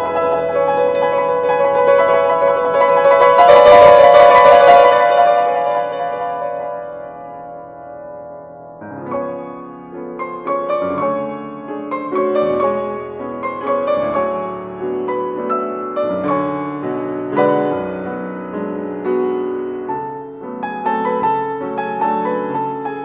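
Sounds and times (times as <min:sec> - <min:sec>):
classical piano music: 0:00.0 - 0:23.0.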